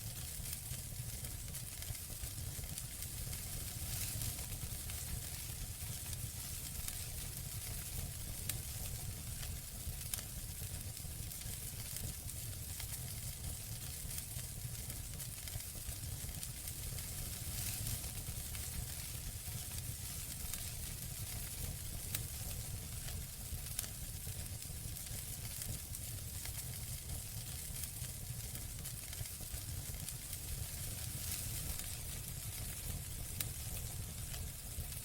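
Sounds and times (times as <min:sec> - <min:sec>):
campfire hissing and crackling: 0:00.0 - 0:35.0.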